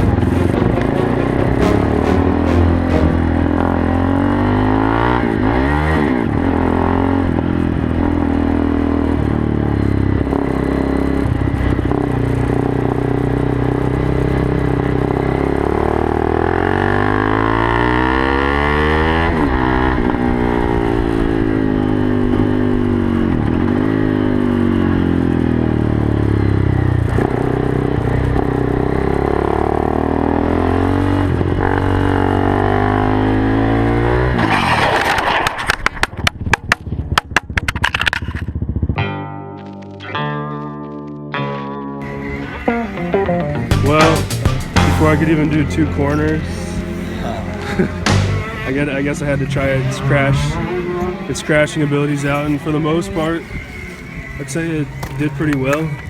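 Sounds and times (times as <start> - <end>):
motorcycle engine revving: 0.0 - 39.0, 42.0 - 56.0.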